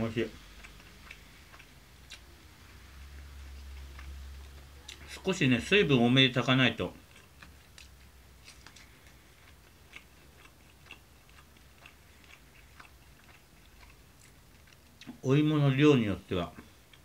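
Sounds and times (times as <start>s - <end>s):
man chewing food: 0.0s - 6.0s, 6.7s - 15.2s, 16.4s - 17.0s.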